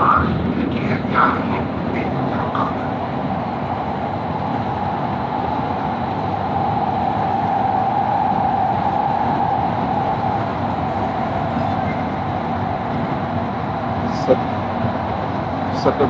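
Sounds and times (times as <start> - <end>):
steady train whine: 0.0 - 16.0
train rumbling and rolling: 0.0 - 16.0.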